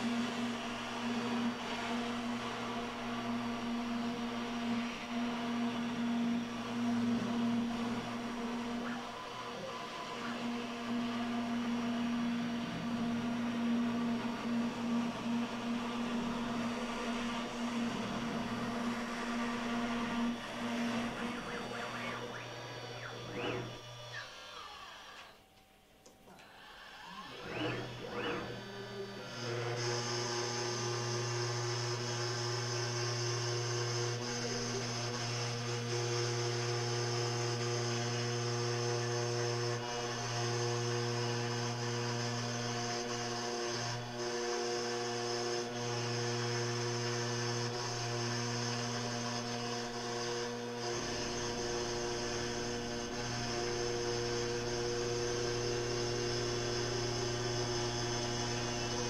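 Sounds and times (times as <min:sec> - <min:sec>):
router spindle whining: 0:00.0 - 0:59.0.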